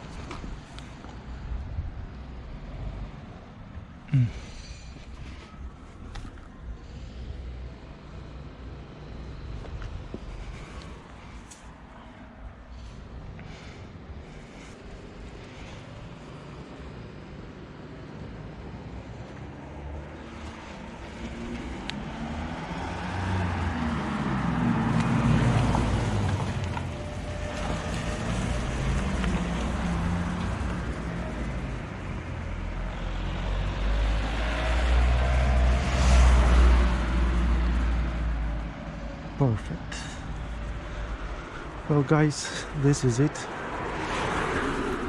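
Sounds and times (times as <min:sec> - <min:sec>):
vehicles passing on road: 0:00.0 - 0:45.0.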